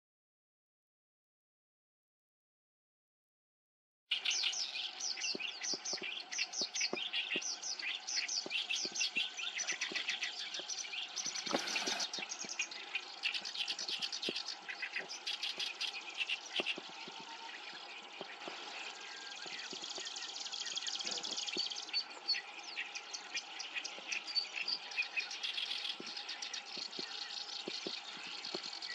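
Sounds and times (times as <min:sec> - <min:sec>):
warbler singing: 0:04.1 - 0:28.9.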